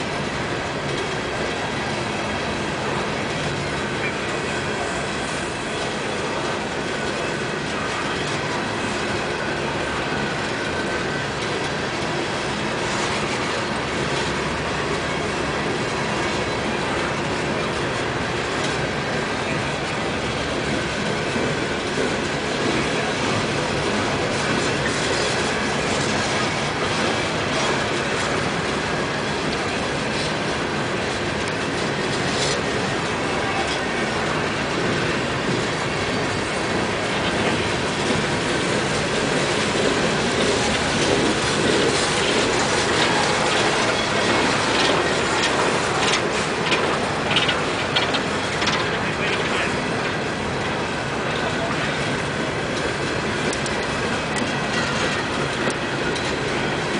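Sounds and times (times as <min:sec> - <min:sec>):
clickety-clack over rail joints: 0:00.0 - 0:56.9
freight train wheels rolling on rail: 0:00.0 - 0:56.9.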